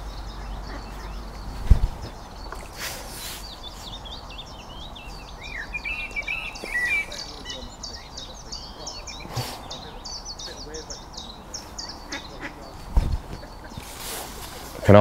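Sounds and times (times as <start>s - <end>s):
songbirds chirping and warbling: 0.0s - 15.0s.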